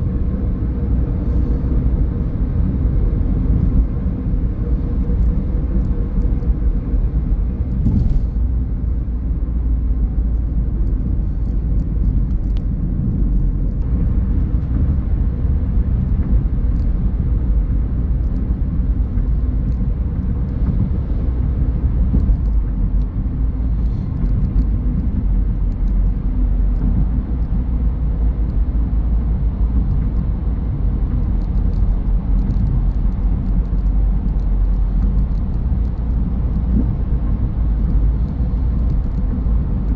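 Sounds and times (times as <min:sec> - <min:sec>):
car tyre and road noise: 0:00.0 - 0:39.9.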